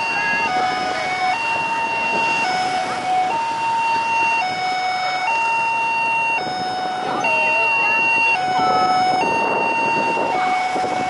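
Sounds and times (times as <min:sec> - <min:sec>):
two-tone hi-lo siren: 0:00.0 - 0:11.0.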